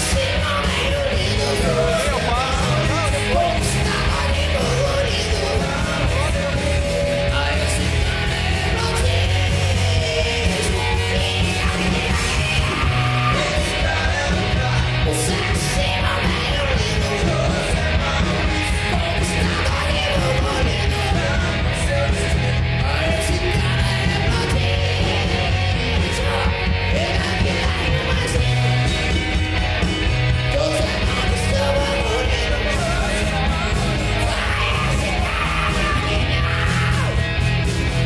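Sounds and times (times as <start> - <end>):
person singing yelled vocals: 0.0 - 28.5, 30.5 - 37.2
drums: 0.0 - 38.0
electric guitar: 0.0 - 38.0.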